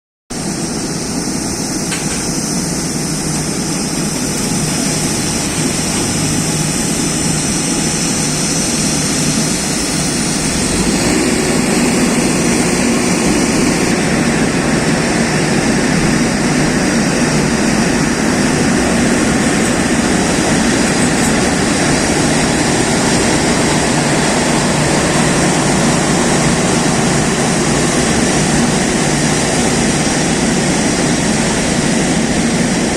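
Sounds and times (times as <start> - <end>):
jet engines running: 0.3 - 32.9.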